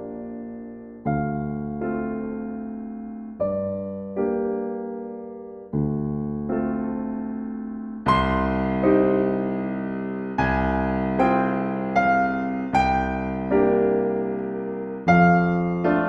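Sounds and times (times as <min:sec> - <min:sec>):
slow solo piano: 0:00.0 - 0:16.0.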